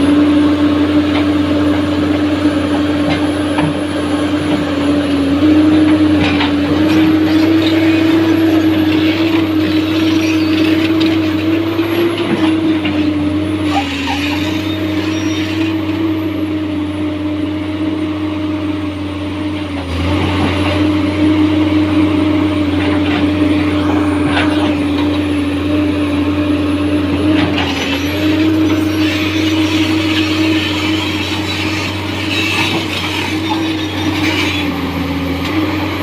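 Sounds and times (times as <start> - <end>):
excavator engine whine: 0.0 - 36.0.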